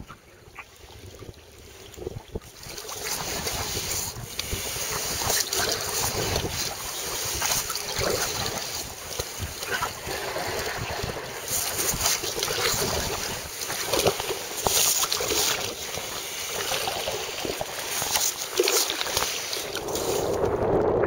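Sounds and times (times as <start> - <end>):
water splashing around kayak: 0.0 - 21.0
wind buffeting microphone: 0.0 - 21.0.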